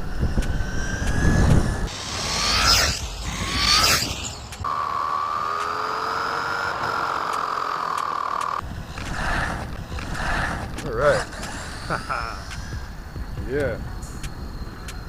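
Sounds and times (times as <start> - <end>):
electric motor whining: 0.0 - 13.4.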